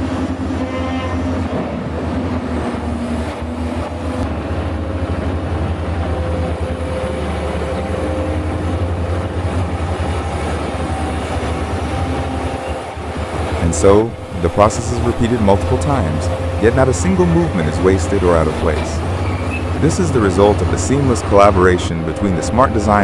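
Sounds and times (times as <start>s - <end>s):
deep engine rumble: 1.2s - 23.0s.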